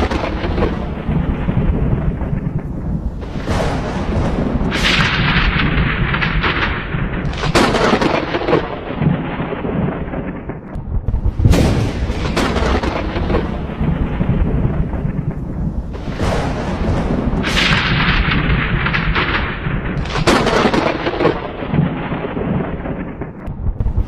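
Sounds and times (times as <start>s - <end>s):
sharp crackling thunder peals: 0.0s - 24.0s
thunder rumbling: 0.0s - 24.0s.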